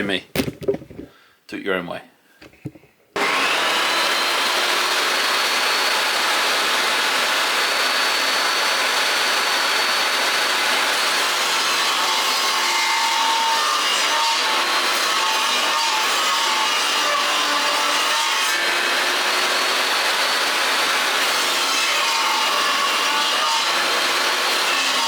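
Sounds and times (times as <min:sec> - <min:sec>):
table saw cutting wood: 0:03.2 - 0:25.0.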